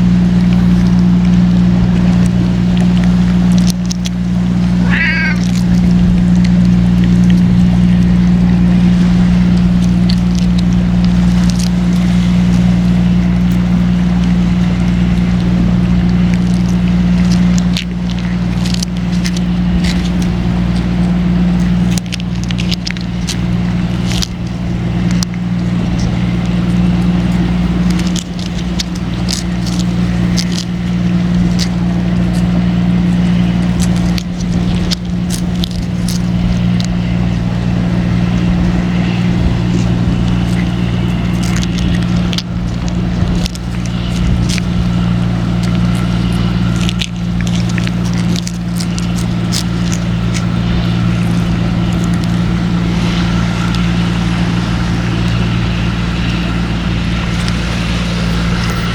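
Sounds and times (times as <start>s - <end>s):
low engine-like hum: 0.0s - 58.9s.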